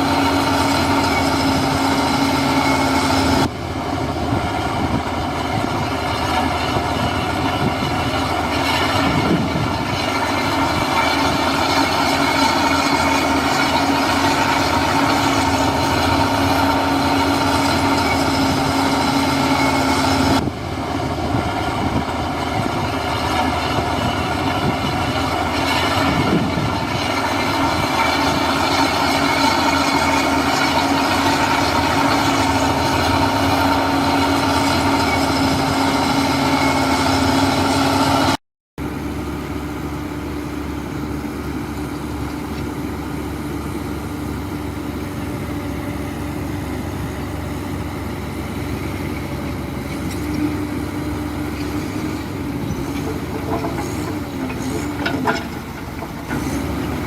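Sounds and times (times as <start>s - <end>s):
diesel machine engine drone: 0.0s - 57.0s.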